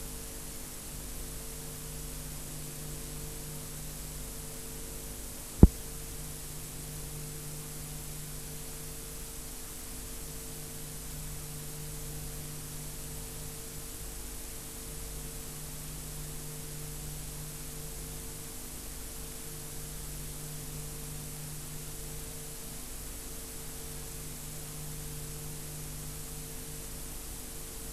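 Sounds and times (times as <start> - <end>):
low electrical hum: 0.0 - 27.9.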